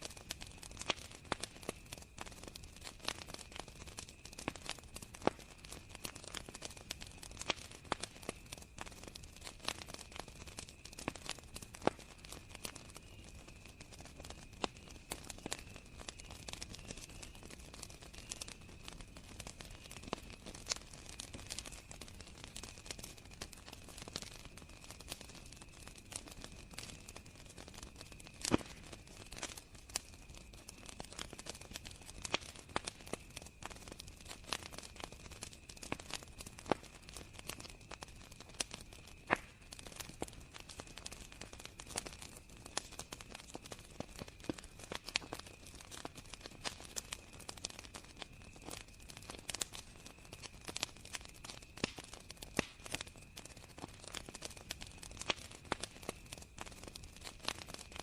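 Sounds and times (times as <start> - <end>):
campfire crackling and popping: 0.0 - 58.0
crickets chirring: 0.1 - 56.7.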